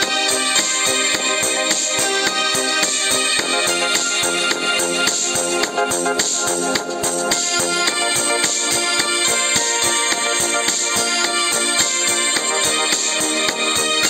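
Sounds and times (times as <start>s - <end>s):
keyboard melody over quick beat: 0.0s - 14.0s.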